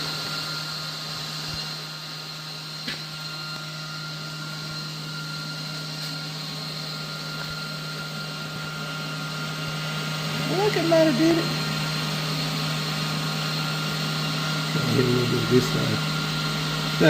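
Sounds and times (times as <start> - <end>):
welder humming and hissing: 0.0 - 17.0.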